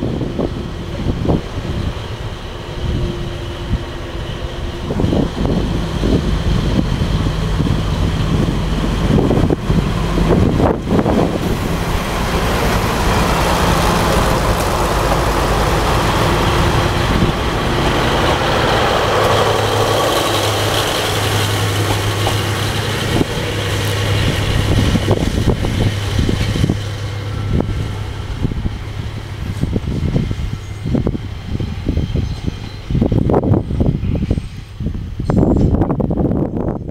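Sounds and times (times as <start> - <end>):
wheels clacking on rails: 0.0 - 36.2
diesel railcar engines: 0.0 - 36.9.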